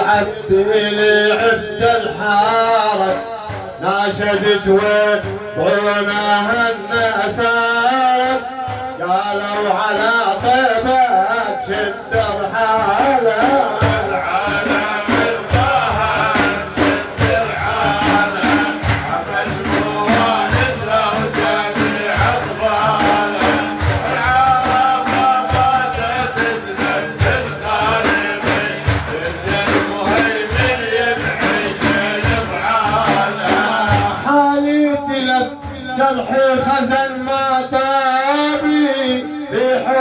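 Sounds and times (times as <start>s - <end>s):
frame drums beating: 0.0s - 39.3s.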